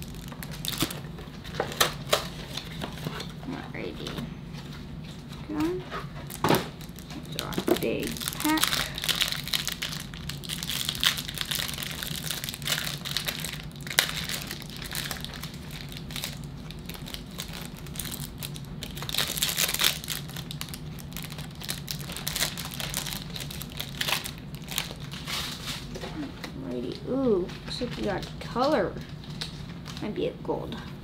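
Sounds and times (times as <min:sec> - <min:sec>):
wrappers crinkling and rustling: 0:00.0 - 0:30.3.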